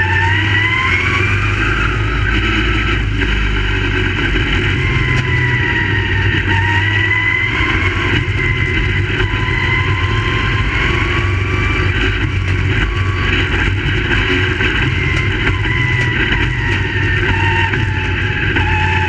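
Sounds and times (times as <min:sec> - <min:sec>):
race car engines running: 0:00.0 - 0:19.0.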